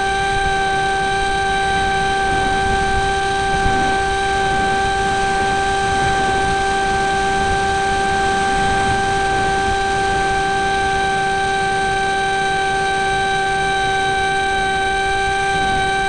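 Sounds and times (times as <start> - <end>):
electric motor high whine: 0.0 - 16.0
wind rushing over microphone: 0.0 - 16.0.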